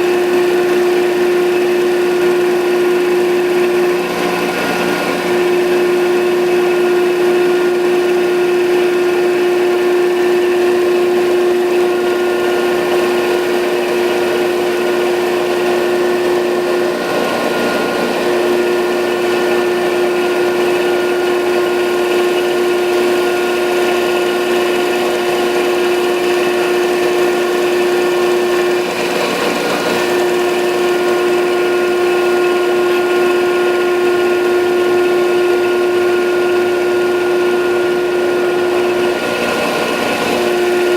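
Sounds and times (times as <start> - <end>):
grinding machine hum: 0.0 - 40.9.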